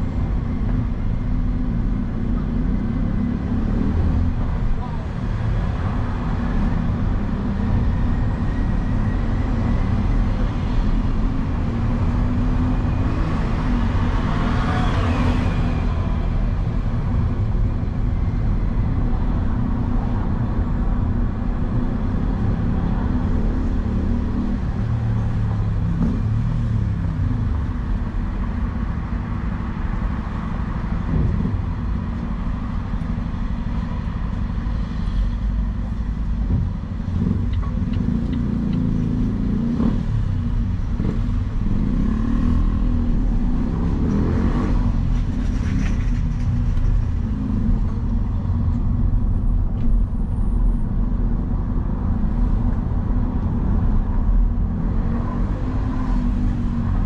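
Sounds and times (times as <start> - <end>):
vehicle road and engine rumble: 0.0 - 57.0.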